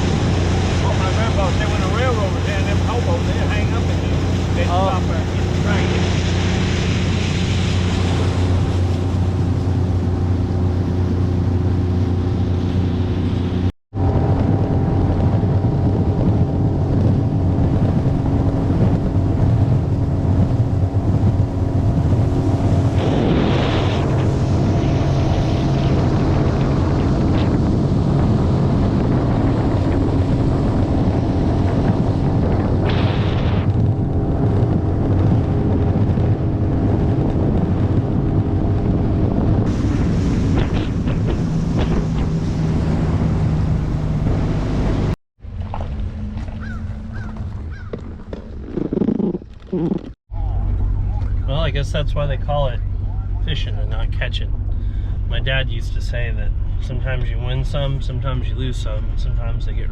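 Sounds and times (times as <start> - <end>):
boat motor running: 0.0 - 59.9
wind noise on microphone: 0.0 - 59.9.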